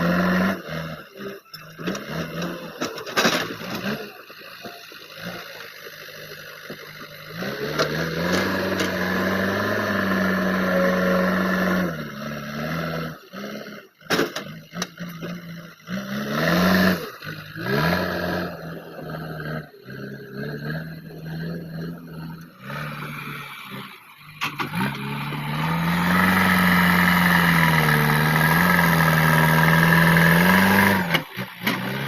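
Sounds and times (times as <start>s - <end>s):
diesel engine revving: 0.0s - 32.0s.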